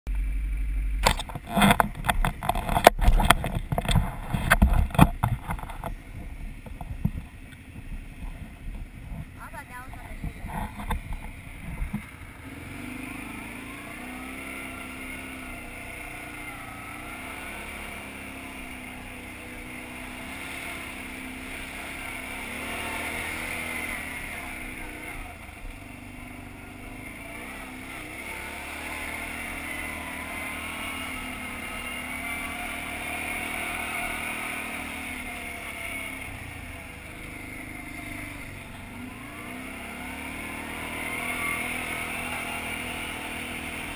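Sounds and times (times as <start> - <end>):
atv engine running: 0.1 - 43.9.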